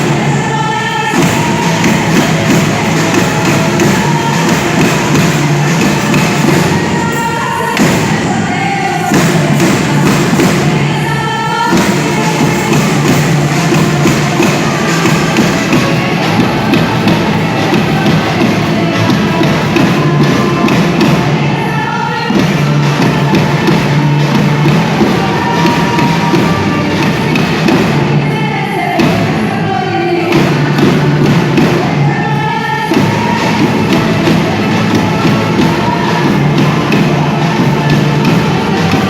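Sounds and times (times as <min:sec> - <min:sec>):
drums in driving rhythm: 0:00.0 - 0:39.0.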